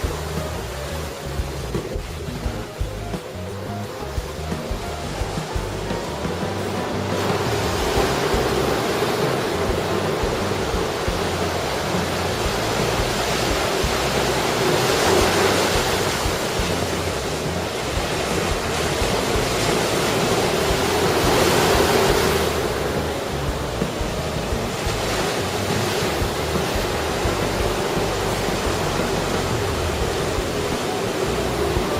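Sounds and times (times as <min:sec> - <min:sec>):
surf crashing on rocks: 0:00.0 - 0:31.9
wind buffeting microphone: 0:00.0 - 0:31.9.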